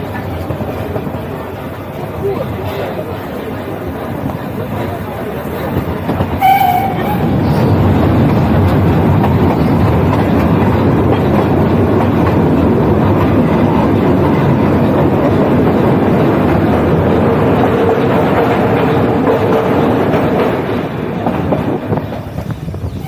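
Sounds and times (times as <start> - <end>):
train carriage rumbling on track: 0.0 - 23.0.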